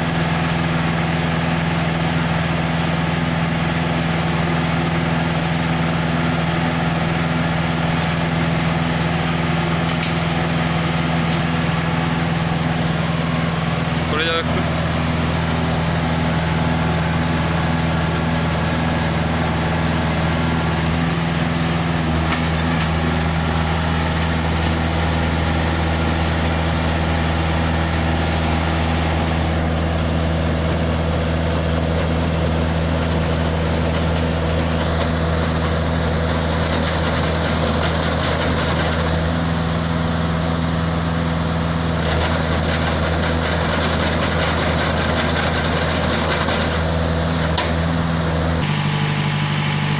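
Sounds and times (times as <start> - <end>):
concrete mixer engine humming: 0.0 - 49.9.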